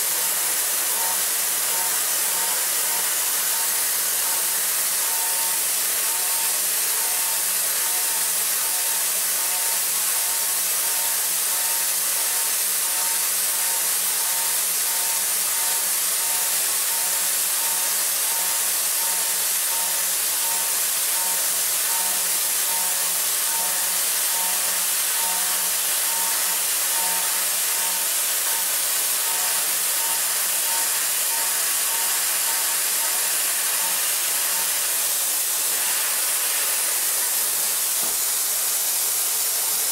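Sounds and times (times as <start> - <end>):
milling machine hiss and hum: 0.0 - 39.9.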